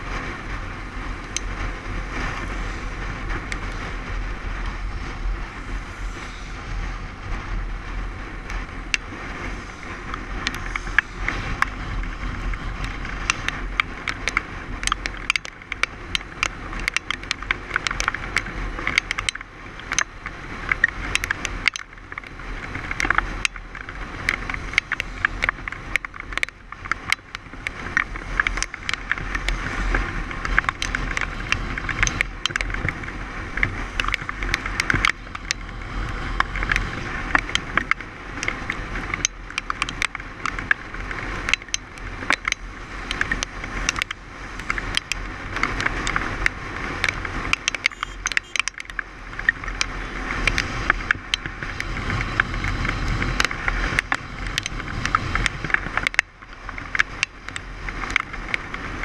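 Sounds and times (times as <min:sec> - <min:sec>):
tyres on wet road: 0:00.0 - 0:59.0
sharp clicks and rattles: 0:00.1 - 0:59.0.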